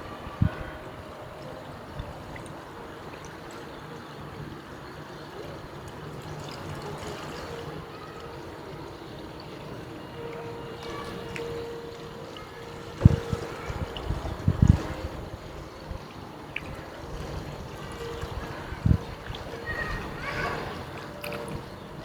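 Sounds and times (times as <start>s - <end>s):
trickling running water: 0.0s - 22.0s.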